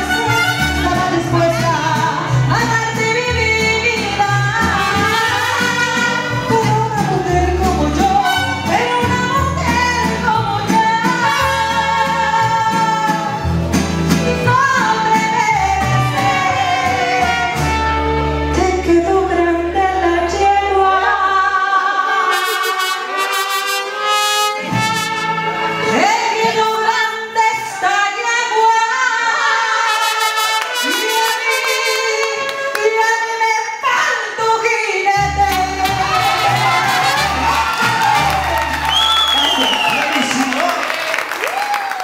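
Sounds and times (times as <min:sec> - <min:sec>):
woman singing: 0:00.0 - 0:13.4, 0:14.1 - 0:23.1, 0:25.8 - 0:37.6
mariachi band playing: 0:00.0 - 0:42.0.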